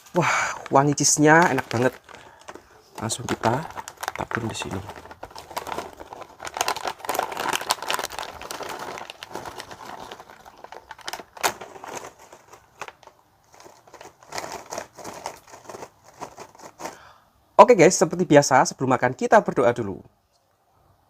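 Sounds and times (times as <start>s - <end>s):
plastic snack bag crinkling: 0.0s - 17.1s.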